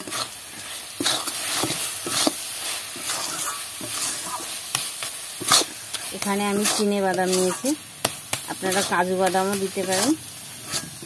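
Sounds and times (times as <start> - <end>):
metal spatula scraping a pan: 0.0 - 11.0
mixture sizzling: 0.0 - 11.0.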